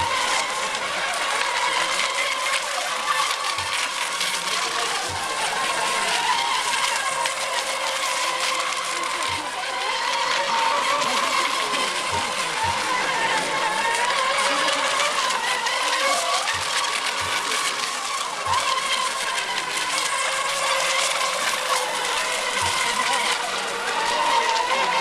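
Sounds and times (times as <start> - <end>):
electric motors high whine: 0.0 - 25.0
water spray hiss: 0.0 - 25.0.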